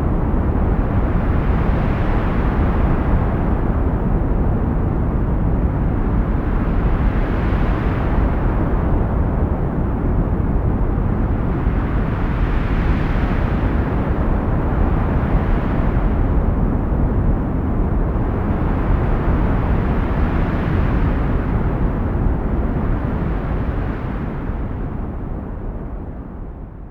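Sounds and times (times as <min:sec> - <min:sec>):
heavy wind blowing: 0:00.0 - 0:26.9.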